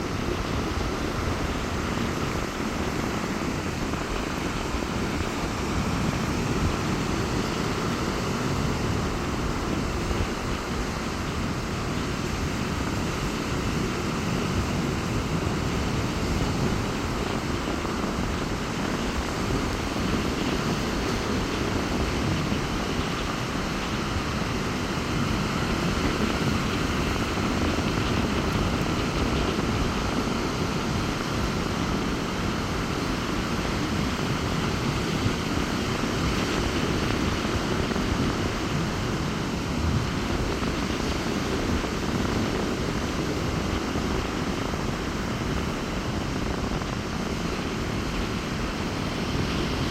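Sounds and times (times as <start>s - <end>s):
sea surf breaking on beach: 0.0s - 49.9s
wind buffeting microphone: 0.0s - 49.9s.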